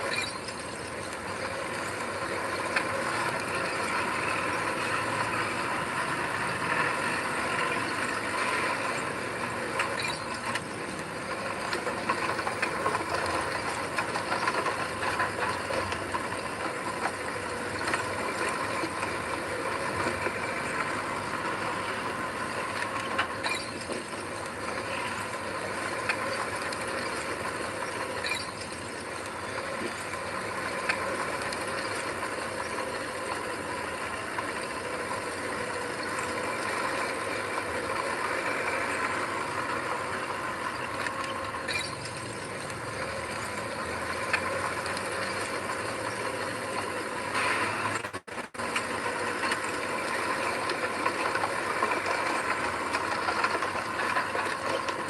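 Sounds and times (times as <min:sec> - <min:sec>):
heavy diesel machinery running: 0:00.1 - 0:55.0.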